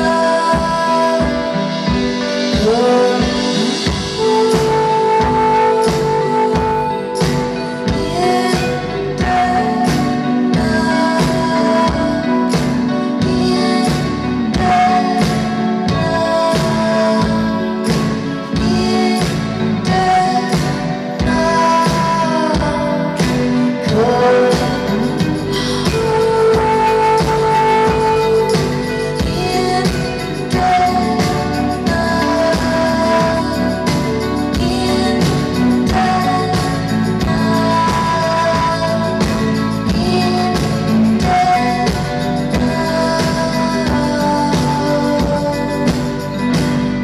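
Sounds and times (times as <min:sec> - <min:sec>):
guitar: 0:00.0 - 0:47.0
keyboard chords: 0:00.0 - 0:47.0
live band playing: 0:00.0 - 0:47.0.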